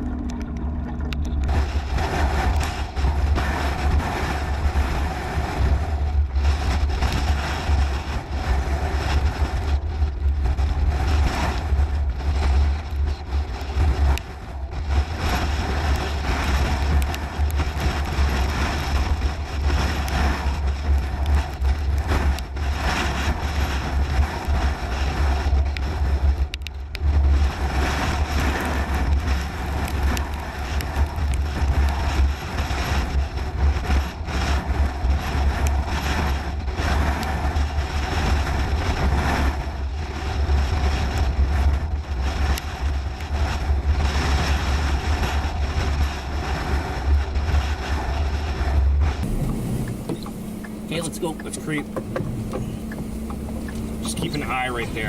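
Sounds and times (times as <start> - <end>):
gusting wind on microphone: 0.0 - 55.0.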